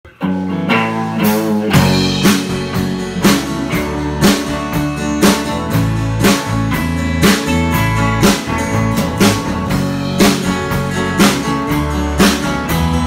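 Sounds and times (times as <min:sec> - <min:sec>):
bass guitar: 0:00.0 - 0:13.0
electric guitar: 0:00.1 - 0:13.0
drum hits: 0:01.2 - 0:13.0.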